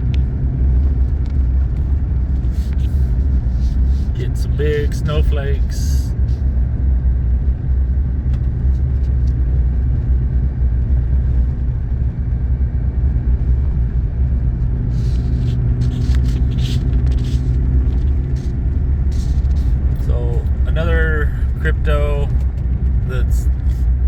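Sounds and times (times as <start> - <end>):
vehicle engine and tyre rumble: 0.0 - 24.0.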